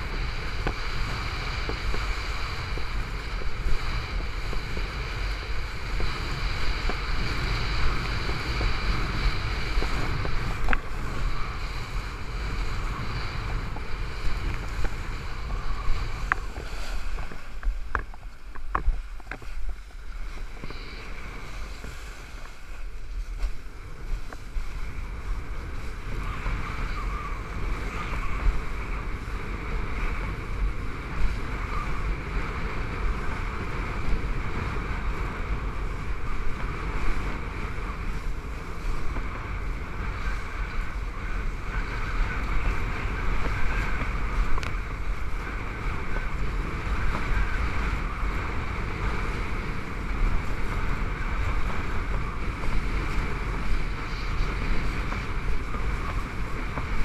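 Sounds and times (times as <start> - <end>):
kiteboard spray hissing: 0.0 - 57.0
wind buffeting camera: 0.0 - 57.0.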